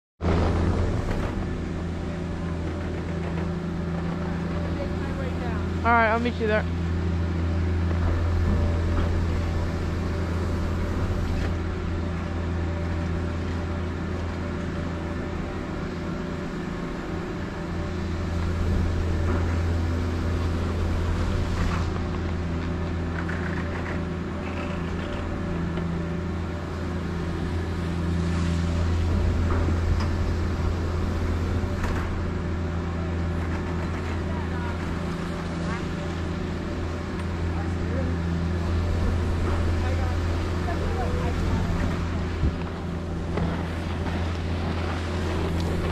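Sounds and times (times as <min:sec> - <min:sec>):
chairlift machine hum: 0:00.2 - 0:45.9.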